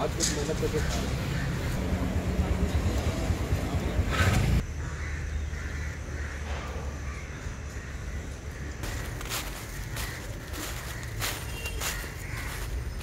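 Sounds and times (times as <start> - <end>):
crows cawing: 0.0 - 2.0, 4.1 - 13.0
road traffic noise: 0.0 - 13.0.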